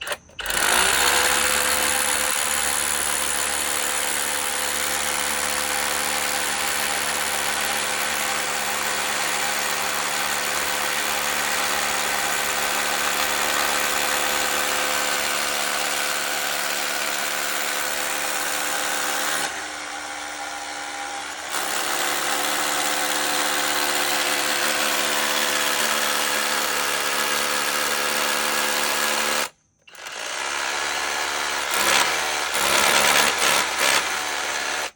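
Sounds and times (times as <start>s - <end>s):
rotary hammer drilling concrete: 0.0s - 34.9s.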